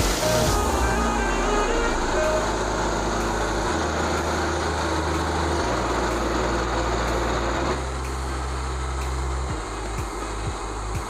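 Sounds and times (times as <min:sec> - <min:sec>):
background music with bass: 0:00.0 - 0:11.0
sawmill engine cutting log: 0:00.0 - 0:11.0.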